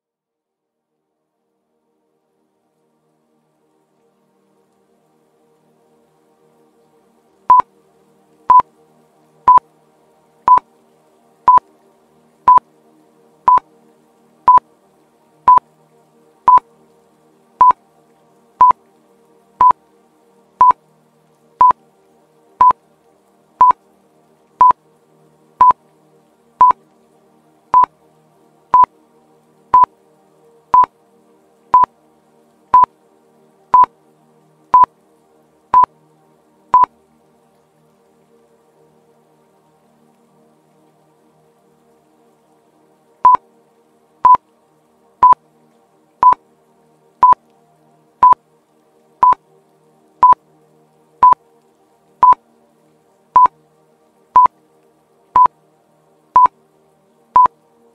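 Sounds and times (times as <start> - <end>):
soft background music: 0.7 - 57.9.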